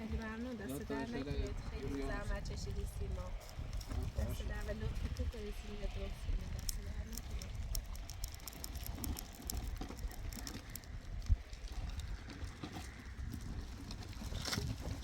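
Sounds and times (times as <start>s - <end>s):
rain pattering on hut: 0.0s - 15.0s
wind rumble on microphone: 0.0s - 15.0s.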